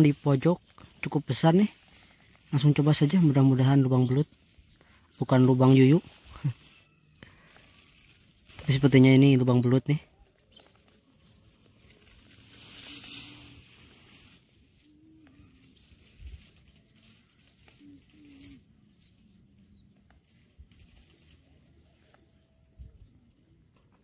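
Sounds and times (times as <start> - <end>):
rustling hiss: 0.0 - 9.7, 10.5 - 22.2.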